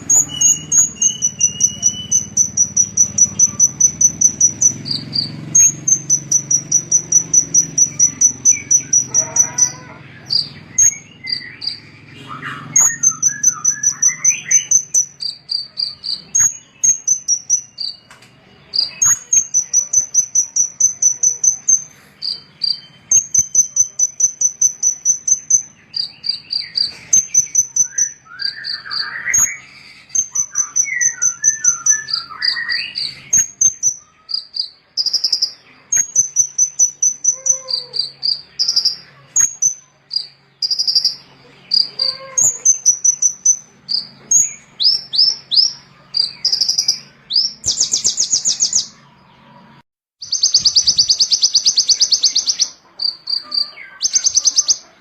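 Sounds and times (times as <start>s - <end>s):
bird warbling song: 0.0s - 55.0s
small songbirds chirping: 0.0s - 55.0s.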